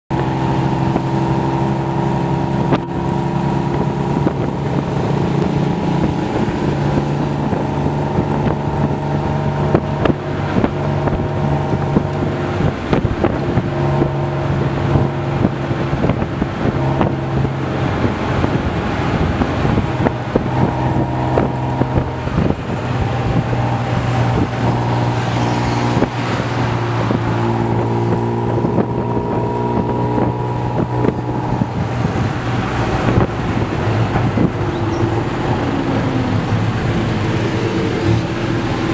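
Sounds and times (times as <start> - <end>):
wind and road noise: 0.1 - 38.9.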